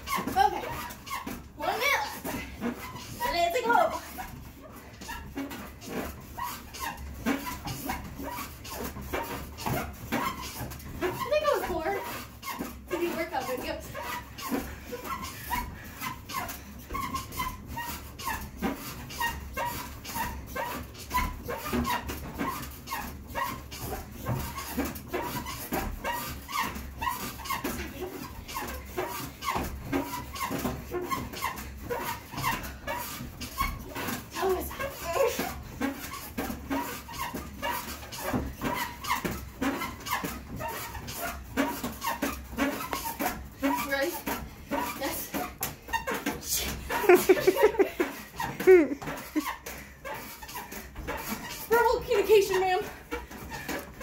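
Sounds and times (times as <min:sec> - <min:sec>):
elliptical trainer squeaking: 0:00.0 - 0:54.0.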